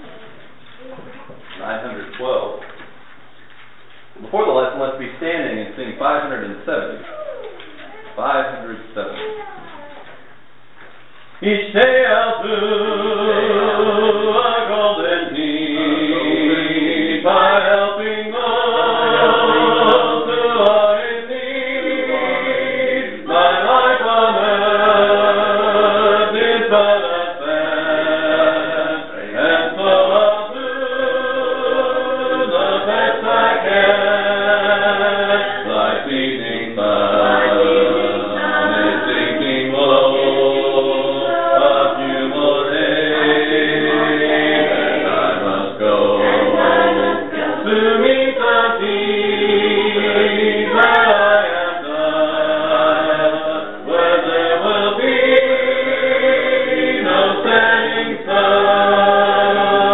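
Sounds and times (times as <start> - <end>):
congregation singing a hymn: 11.4 - 59.9.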